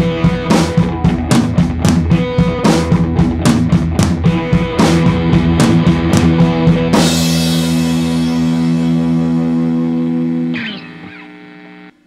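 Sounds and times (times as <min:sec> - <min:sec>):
drums beating: 0:00.0 - 0:10.2
rock music with guitar: 0:00.0 - 0:12.0.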